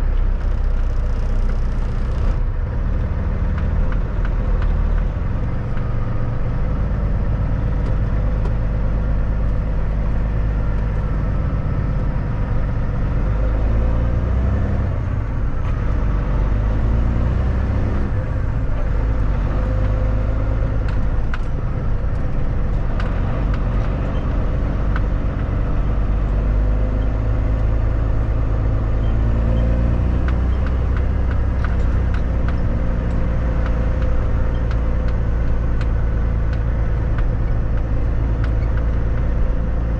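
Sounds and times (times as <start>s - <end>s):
truck diesel engine driving: 0.0s - 39.9s.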